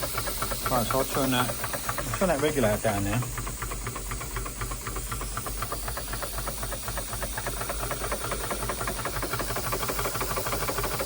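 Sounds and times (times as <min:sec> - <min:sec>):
steam engine chuffing: 0:00.0 - 0:11.0
steam hissing: 0:00.0 - 0:11.0.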